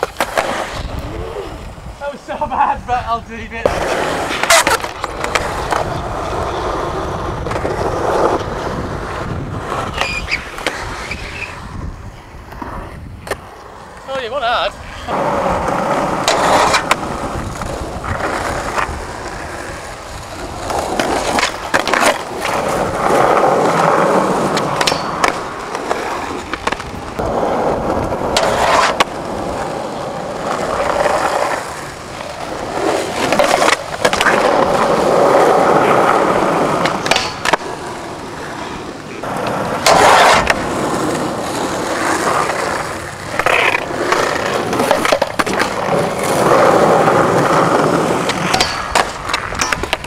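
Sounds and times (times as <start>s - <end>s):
skateboard popping and landing: 0.0s - 1.8s, 3.6s - 14.1s, 15.1s - 50.0s
skateboard wheels rolling: 0.0s - 50.0s.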